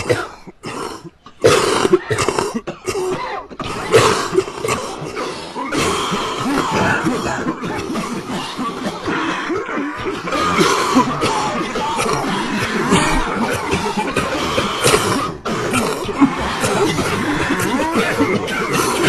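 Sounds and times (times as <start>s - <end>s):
many people coughing: 0.0s - 19.0s.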